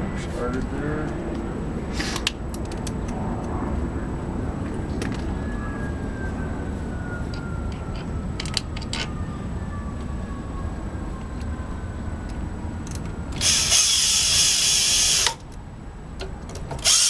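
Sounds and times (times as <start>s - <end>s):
steady low rumble: 0.0s - 13.7s.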